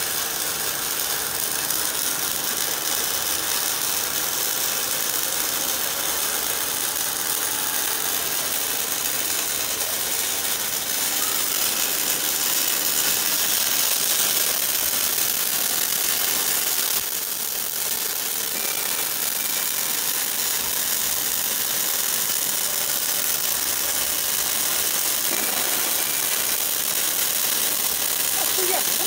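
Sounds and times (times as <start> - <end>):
welding arc hissing: 0.0 - 29.0.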